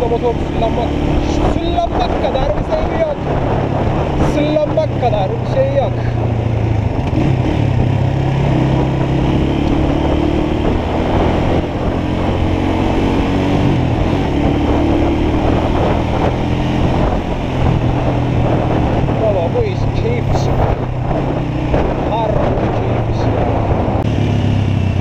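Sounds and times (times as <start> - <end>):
motorcycle engine running: 0.0 - 25.0
wind noise: 0.0 - 25.0.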